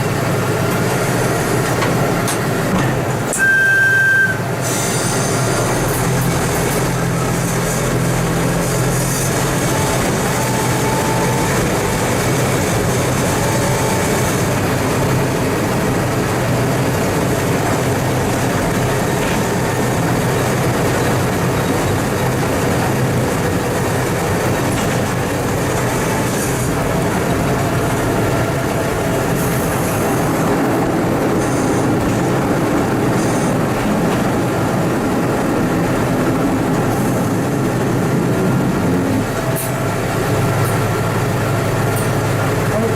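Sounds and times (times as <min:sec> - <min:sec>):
wheels on rails: 0:00.0 - 0:42.9
motor car engine running: 0:05.6 - 0:42.9.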